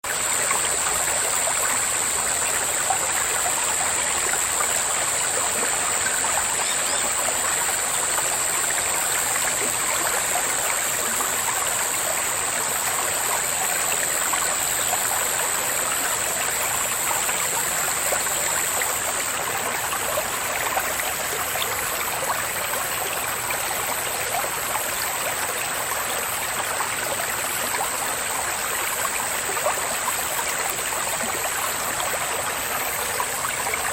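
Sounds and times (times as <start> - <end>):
cicadas droning: 0.1 - 33.9.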